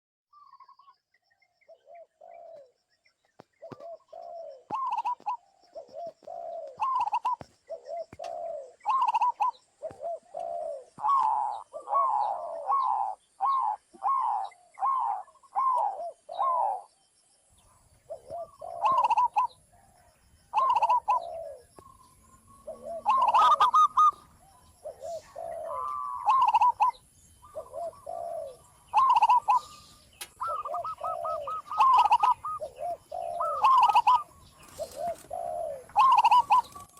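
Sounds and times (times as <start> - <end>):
doves cooing: 1.7 - 2.8, 3.4 - 17.0, 17.6 - 36.9.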